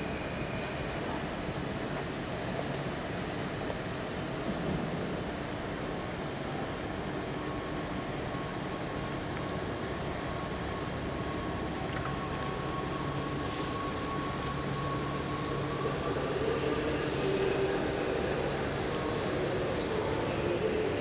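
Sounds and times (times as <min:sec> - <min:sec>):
electric train whine: 0:00.0 - 0:21.0.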